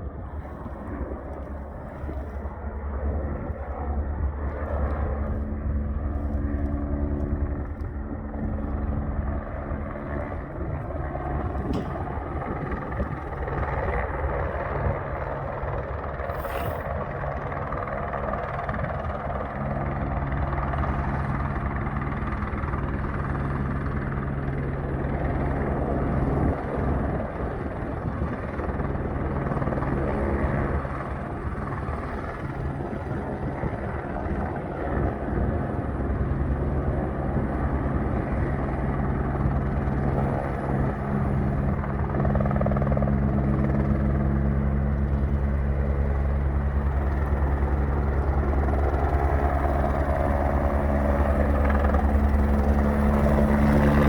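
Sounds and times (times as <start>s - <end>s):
helicopter rotor beating: 0.0s - 54.0s.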